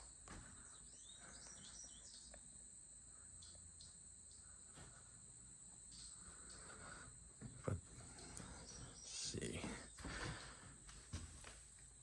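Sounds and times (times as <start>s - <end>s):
crickets chirping: 0.0s - 10.6s.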